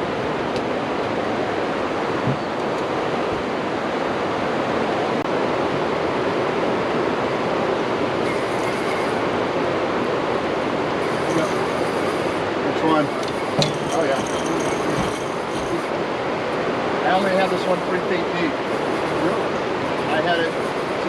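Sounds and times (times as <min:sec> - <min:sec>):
water roaring through dam gates: 0:00.0 - 0:21.0.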